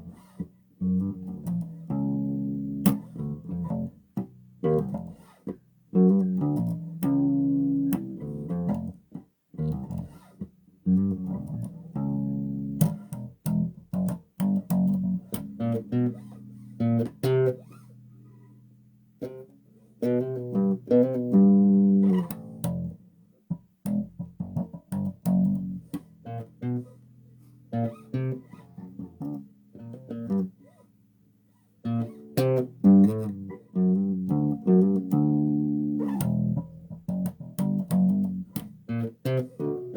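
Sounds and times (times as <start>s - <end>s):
plucked bass guitar: 0.0s - 30.7s, 31.8s - 39.9s.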